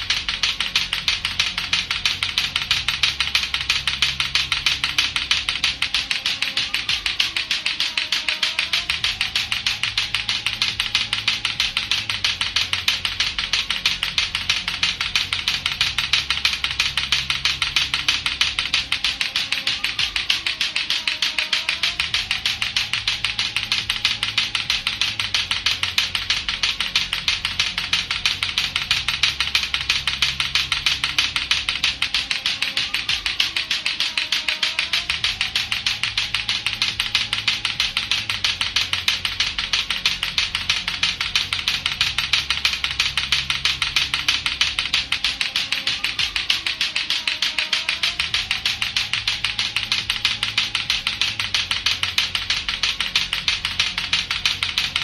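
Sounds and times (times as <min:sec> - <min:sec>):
low background sound with pitch glides: 0:00.0 - 0:55.0
plastic clacker balls knocking: 0:00.0 - 0:55.0.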